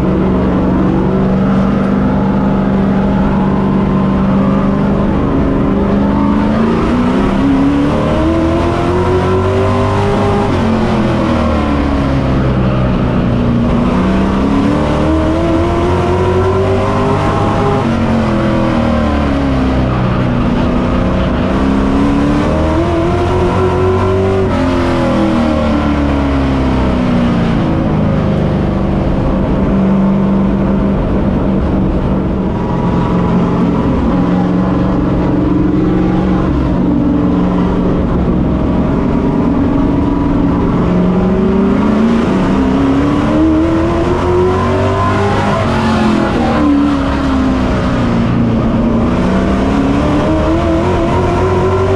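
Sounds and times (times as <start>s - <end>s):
race truck engine revving: 0.0s - 51.9s.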